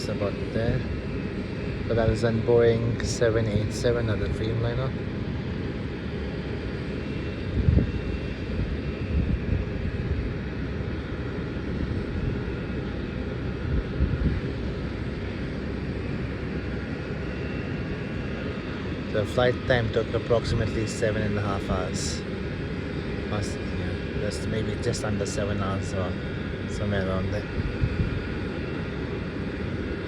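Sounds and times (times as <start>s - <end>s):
distant jet airliner rumble: 0.0s - 30.0s.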